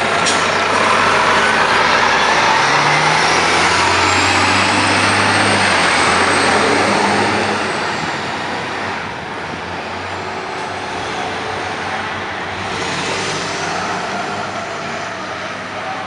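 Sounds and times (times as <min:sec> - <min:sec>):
city traffic noise: 0:00.0 - 0:16.0
diesel truck engine: 0:00.0 - 0:16.0.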